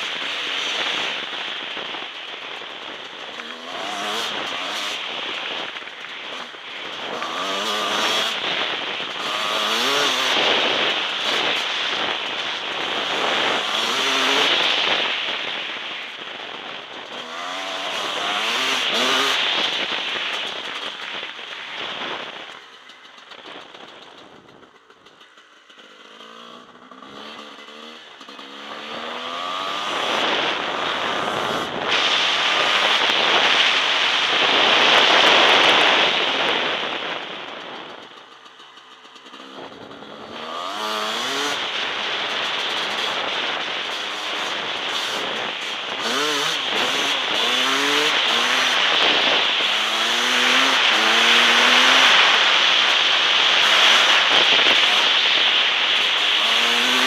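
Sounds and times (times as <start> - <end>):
motorcycle engine revving: 0.0 - 57.0
rushing wind and road noise: 0.0 - 57.0.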